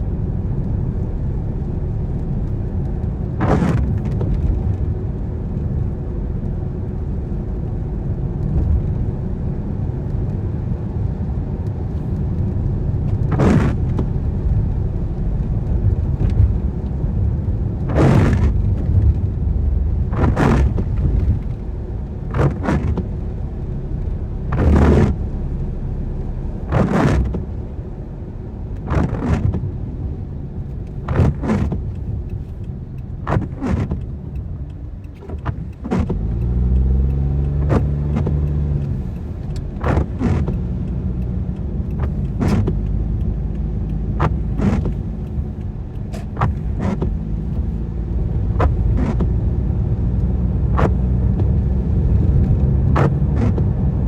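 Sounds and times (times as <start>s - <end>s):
road and engine rumble: 0.0s - 54.0s
tyres swishing on wet road: 0.0s - 54.0s.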